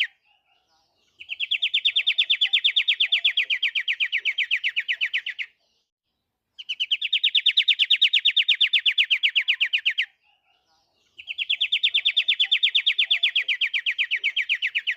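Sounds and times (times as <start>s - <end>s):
bird singing fast trills: 0.0s - 5.9s, 6.5s - 14.9s.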